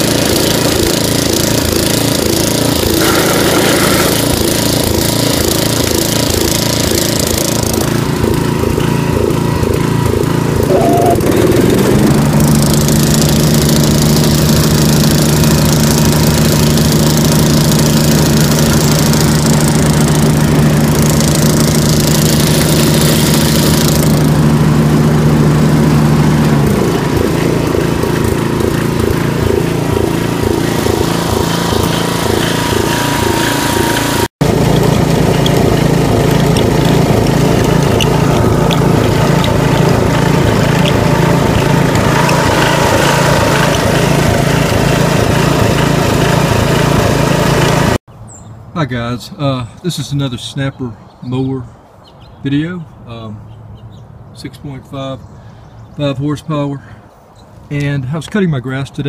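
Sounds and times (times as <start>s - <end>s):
riding mower engine running: 0.0s - 48.1s.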